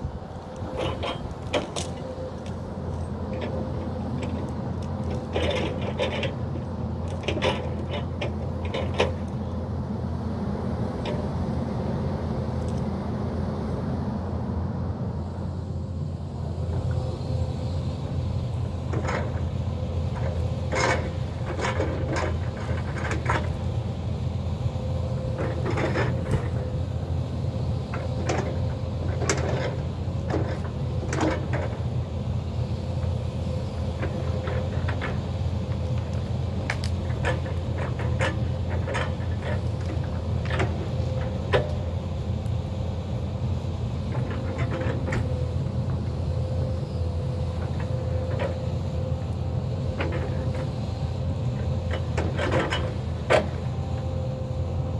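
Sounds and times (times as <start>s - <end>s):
excavator diesel engine whining: 0.0s - 54.9s.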